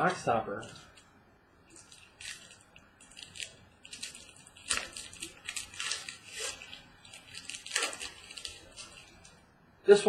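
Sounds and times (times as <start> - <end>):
wrapper crinkling: 0.6 - 9.4.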